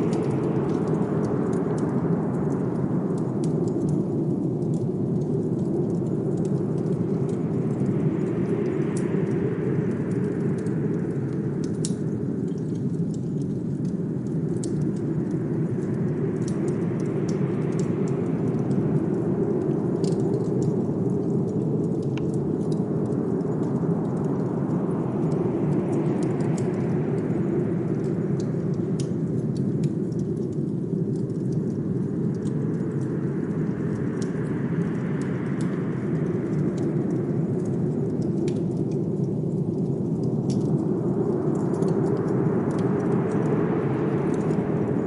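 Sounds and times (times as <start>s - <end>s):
blizzard wind gusting: 0.0s - 12.8s, 14.6s - 29.4s, 31.8s - 45.0s
steady low rumble: 0.0s - 45.0s
wood fire crackling: 0.0s - 45.0s.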